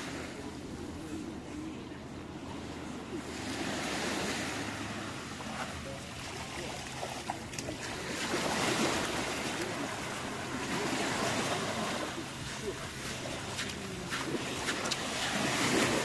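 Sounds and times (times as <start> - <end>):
small waves washing on beach: 0.0 - 16.0.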